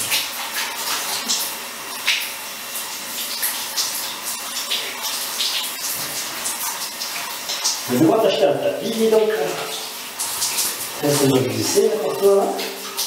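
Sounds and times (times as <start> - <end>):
shower water on tiled floor: 0.0 - 13.0
water splashes: 0.0 - 13.0.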